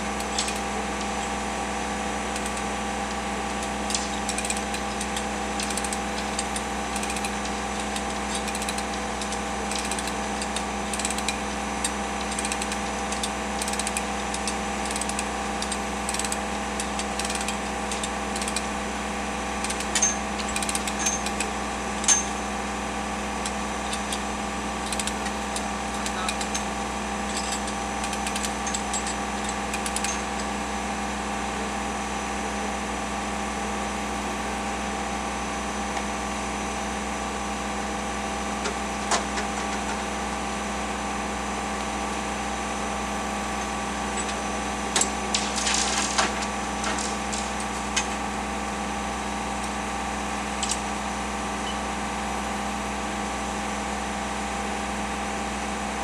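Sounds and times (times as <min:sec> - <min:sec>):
machine engine humming: 0:00.0 - 0:32.8, 0:33.5 - 0:51.8.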